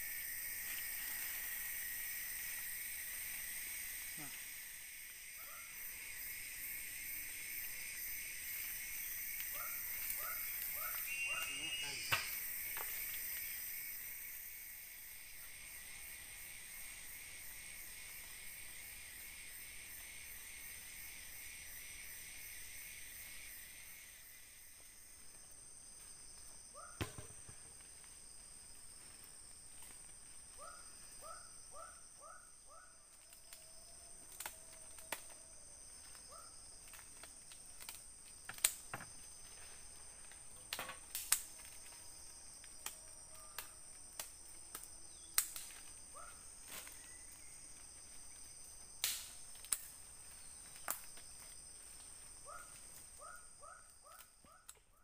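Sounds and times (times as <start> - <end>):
insects buzzing: 0.0 - 55.0
pulsing insect trill: 0.0 - 55.0.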